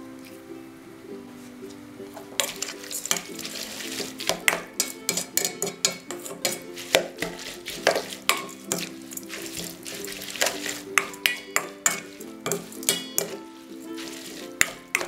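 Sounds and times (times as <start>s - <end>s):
soft background music: 0.0s - 15.0s
utensils scraping a metal bowl: 2.3s - 15.0s.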